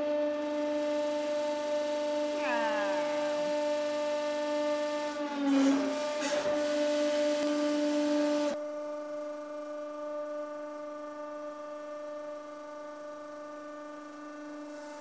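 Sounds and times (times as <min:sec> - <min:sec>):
hydraulic pump humming: 0:00.0 - 0:15.0.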